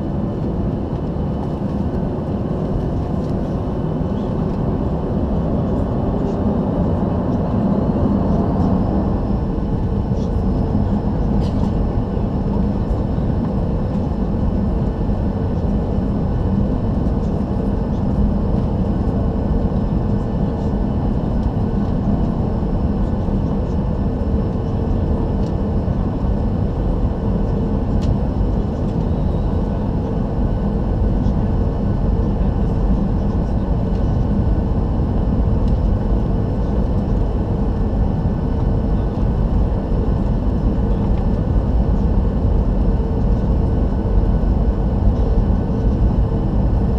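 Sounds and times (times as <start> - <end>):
jet engines humming: 0.0 - 46.9.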